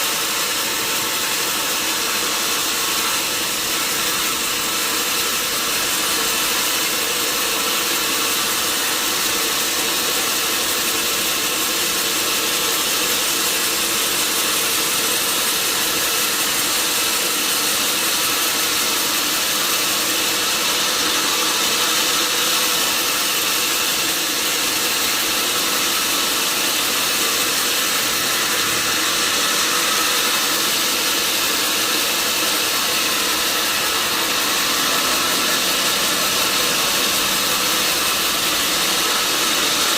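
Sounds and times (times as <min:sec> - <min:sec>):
log saw running: 0:00.0 - 0:39.9.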